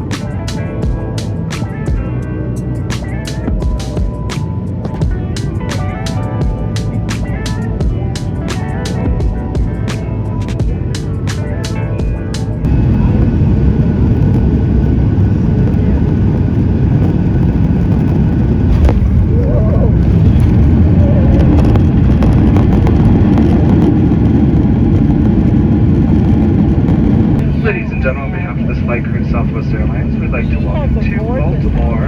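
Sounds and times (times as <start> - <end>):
aircraft cabin rumble on runway: 3.0 - 32.0.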